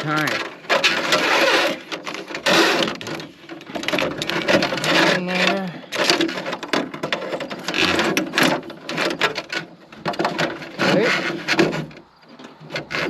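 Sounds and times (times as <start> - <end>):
rubber hose rubbing against plastic: 0.0 - 13.0.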